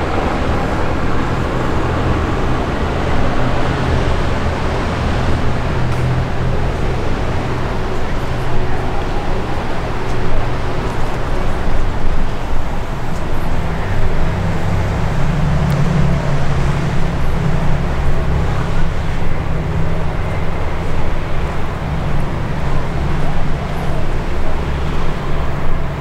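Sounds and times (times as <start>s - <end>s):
heavy vehicle engine rumble: 0.0s - 26.0s
hiss of passing cars: 0.0s - 26.0s.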